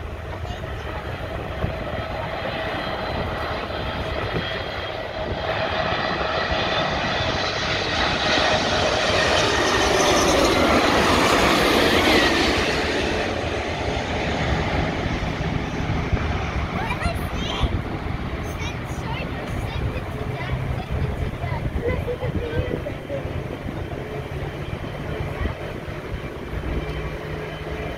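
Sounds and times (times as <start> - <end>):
jet roar with whine: 0.0 - 27.9.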